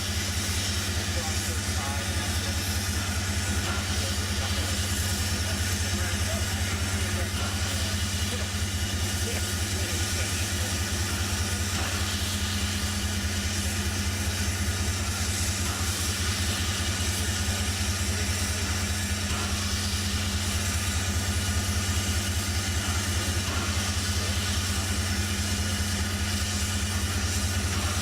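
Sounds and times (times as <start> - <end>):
machine humming and throbbing: 0.0 - 28.0.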